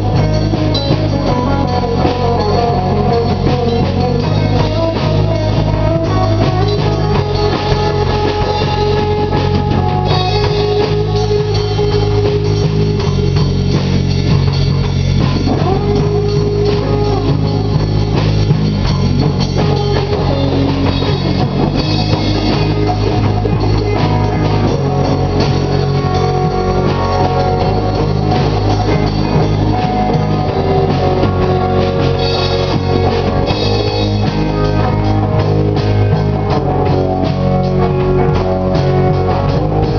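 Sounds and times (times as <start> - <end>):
drum kit: 0.0 - 39.9
electric guitars: 0.0 - 39.9
live rock band playing: 0.0 - 39.9.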